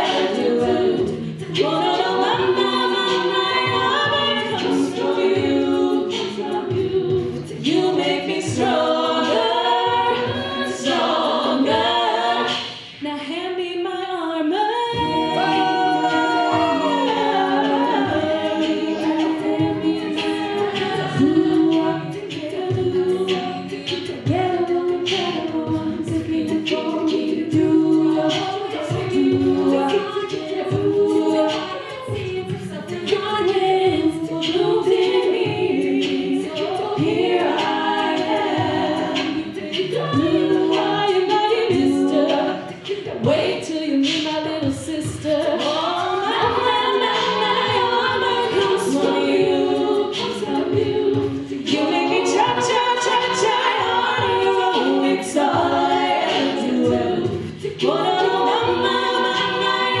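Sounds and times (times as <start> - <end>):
women singing a cappella harmony: 0.0 - 60.0.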